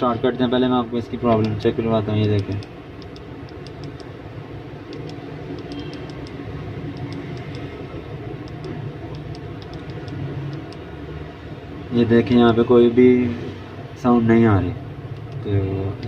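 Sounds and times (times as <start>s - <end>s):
low hum and room noise: 0.0s - 16.0s.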